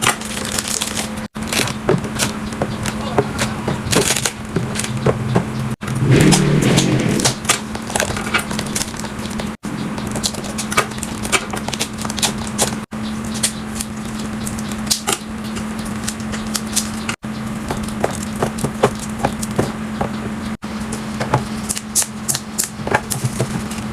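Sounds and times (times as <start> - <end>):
steady low fridge hum: 0.0 - 23.9.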